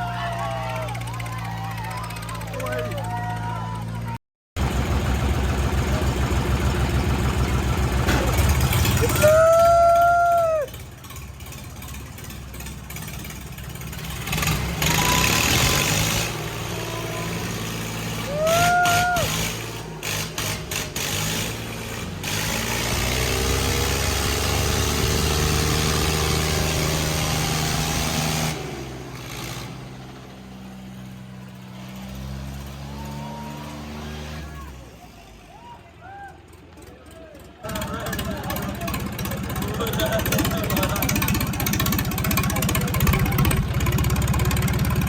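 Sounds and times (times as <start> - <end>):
tractor engines revving under load: 0.0 - 45.0.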